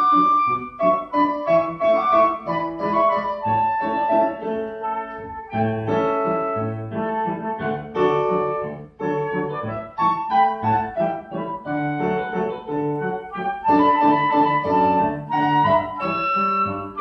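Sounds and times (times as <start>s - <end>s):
flute melody: 0.0s - 17.0s
piano accompaniment: 0.0s - 17.0s.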